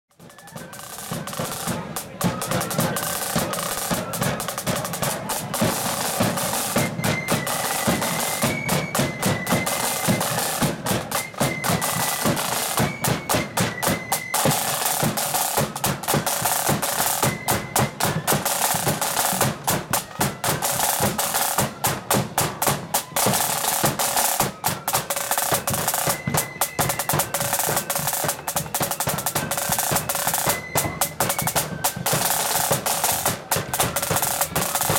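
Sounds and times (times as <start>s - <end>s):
snare drums beating fast rolls: 0.1s - 34.9s.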